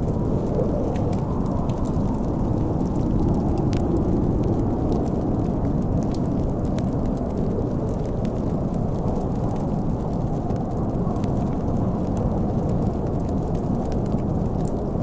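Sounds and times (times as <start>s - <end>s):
wind low rumble: 0.0s - 15.0s
wood fire crackling: 0.0s - 15.0s.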